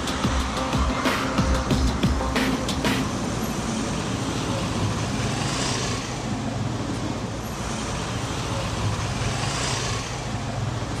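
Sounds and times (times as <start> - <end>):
cars passing: 0.0 - 11.0
road traffic rumble: 0.0 - 11.0.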